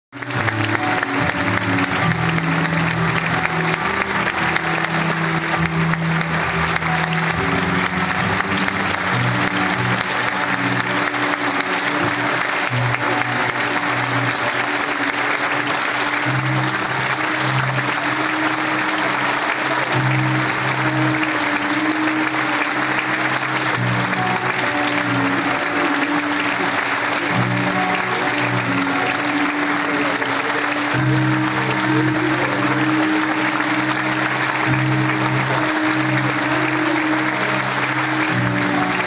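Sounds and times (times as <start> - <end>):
audience applauding: 0.1 - 39.0.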